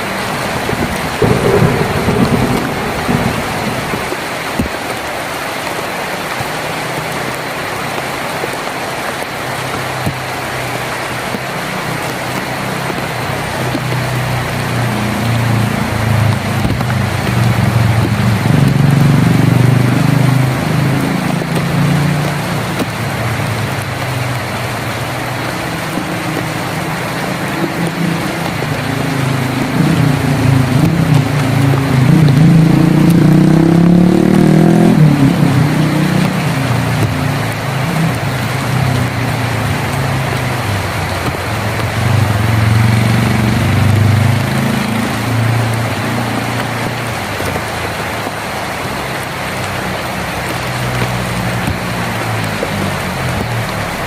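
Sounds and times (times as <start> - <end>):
heavy rain on a tin roof: 0.0 - 54.0
vehicle engine rumble: 0.0 - 54.0.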